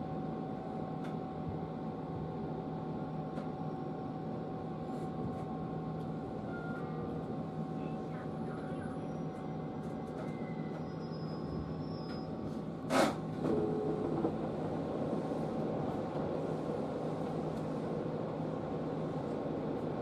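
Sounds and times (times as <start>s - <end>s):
stopped electric train humming: 0.1s - 20.0s.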